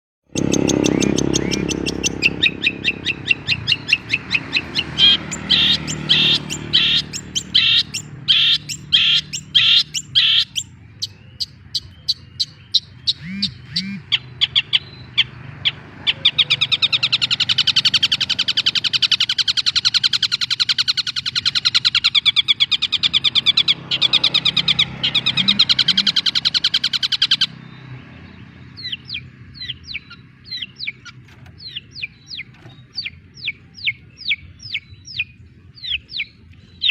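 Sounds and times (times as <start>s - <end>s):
shrike singing: 0.3s - 36.9s.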